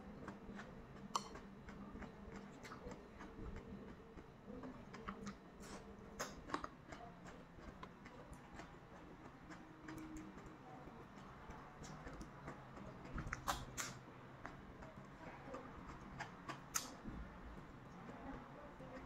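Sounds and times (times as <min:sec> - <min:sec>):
person chewing cucumber: 0:00.0 - 0:19.0.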